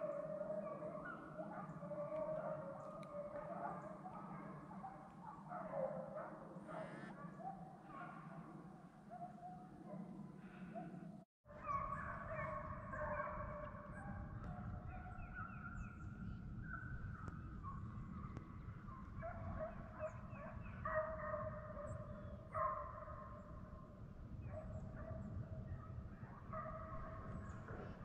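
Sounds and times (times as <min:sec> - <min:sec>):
hounds baying and howling: 0:00.0 - 0:28.0.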